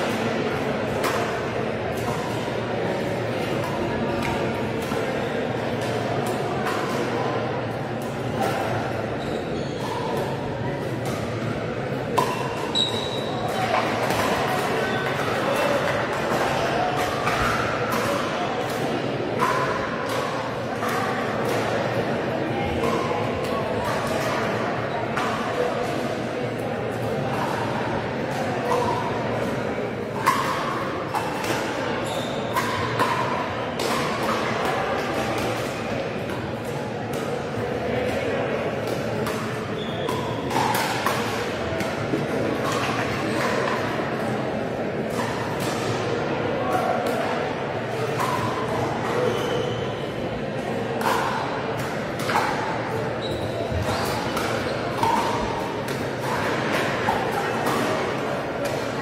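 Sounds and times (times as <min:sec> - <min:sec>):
background chatter: 0:00.0 - 0:59.0
murmur of voices: 0:00.0 - 0:59.0.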